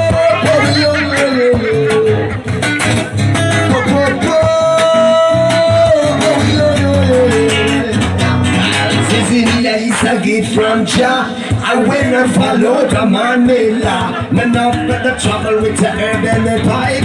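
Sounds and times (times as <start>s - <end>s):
person singing: 0.0s - 2.8s, 3.5s - 17.0s
strummed acoustic guitar: 0.0s - 17.0s.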